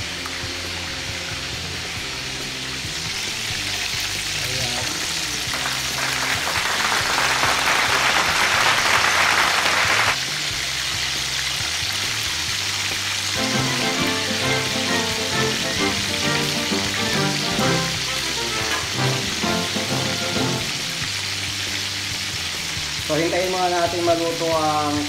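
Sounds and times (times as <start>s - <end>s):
fish deep-frying sizzle: 0.0s - 25.0s.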